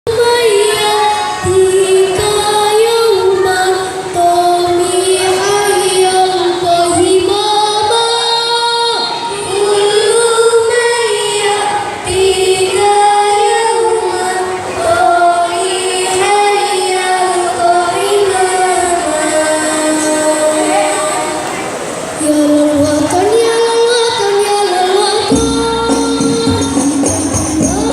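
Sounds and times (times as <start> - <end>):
girl singing devotional melody: 0.1 - 27.9.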